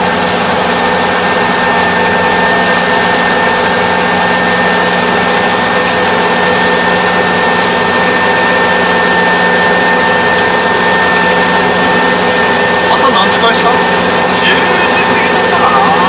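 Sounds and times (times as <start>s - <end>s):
combine harvester drone: 0.0s - 16.0s
steady machine whine: 0.0s - 16.0s.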